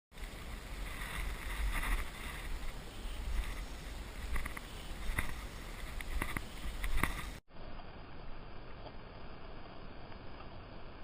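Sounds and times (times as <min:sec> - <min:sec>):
light hiss: 0:00.2 - 0:11.0
low wind rumble on microphone: 0:00.2 - 0:11.0.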